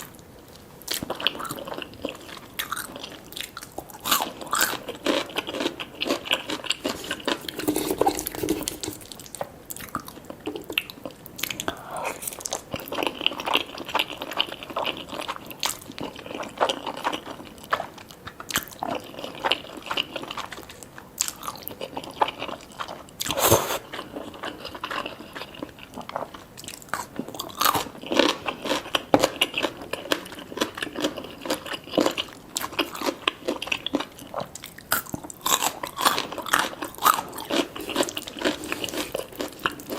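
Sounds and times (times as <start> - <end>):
chewing crispy chicken: 0.0 - 39.9.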